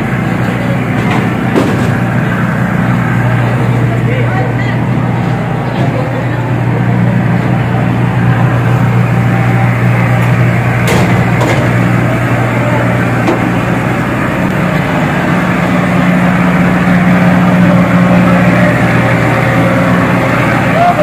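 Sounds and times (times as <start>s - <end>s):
ferry engines droning: 0.0s - 21.0s.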